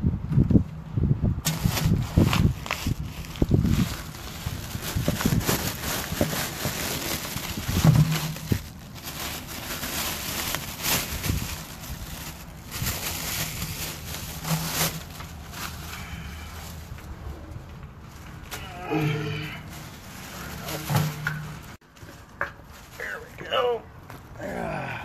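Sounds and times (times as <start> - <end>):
plastic bag crinkling: 1.4 - 23.6.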